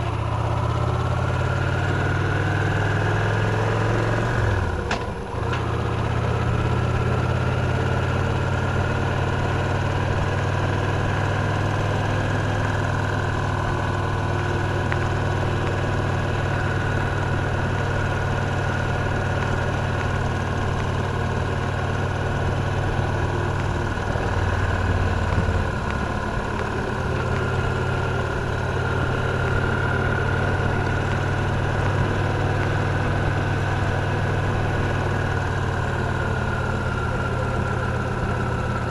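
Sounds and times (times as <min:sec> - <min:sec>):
motorcycle engine humming: 0:00.0 - 0:38.9.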